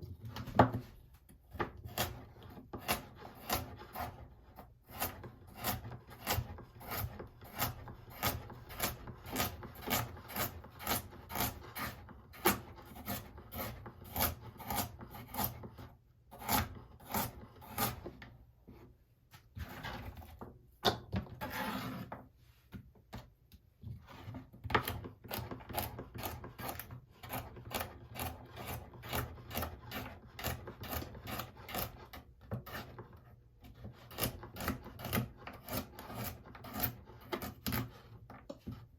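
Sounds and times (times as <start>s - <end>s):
blade scraping carrot: 1.5s - 18.3s, 19.4s - 20.4s, 21.3s - 22.2s, 24.0s - 38.8s.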